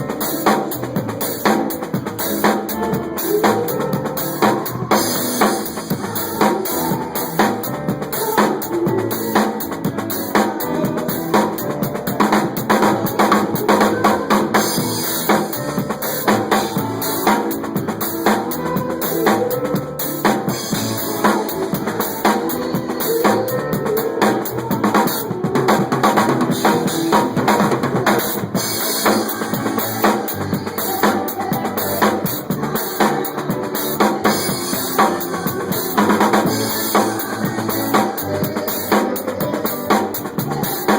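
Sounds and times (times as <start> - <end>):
music with drum kit: 0.0 - 40.9.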